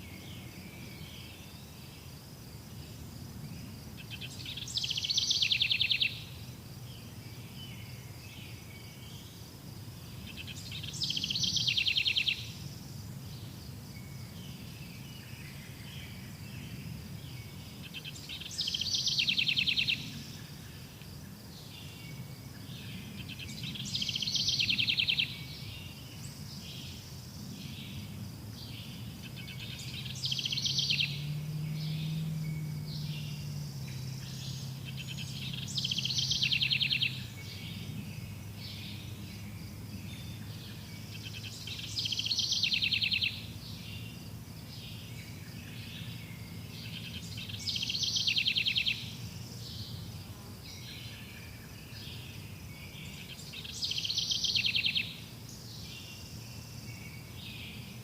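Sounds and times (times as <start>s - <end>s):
soft bird chirps and calls: 3.5s - 9.4s, 10.2s - 12.8s, 13.4s - 58.0s.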